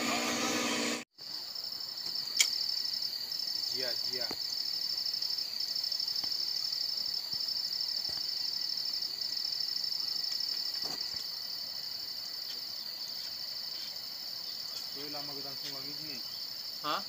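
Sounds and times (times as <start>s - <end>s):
insects trilling: 1.1s - 17.0s.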